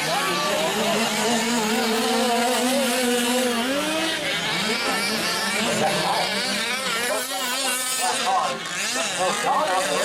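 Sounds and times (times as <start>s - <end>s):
small two-stroke engines buzzing: 0.0s - 10.0s.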